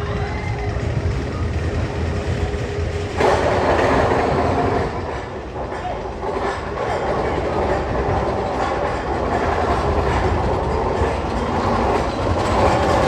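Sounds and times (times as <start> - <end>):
roller coaster rumble and clatter: 0.0 - 13.0.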